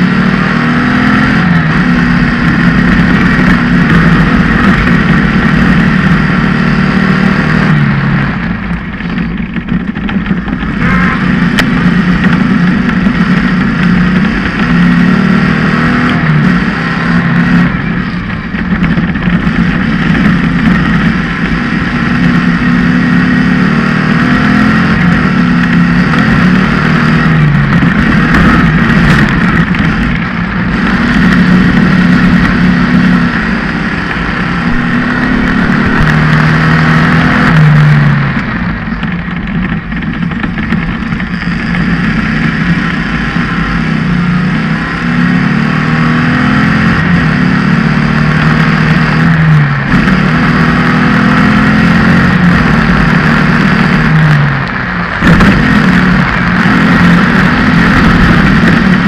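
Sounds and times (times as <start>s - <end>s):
buggy engine revving: 0.0s - 59.0s.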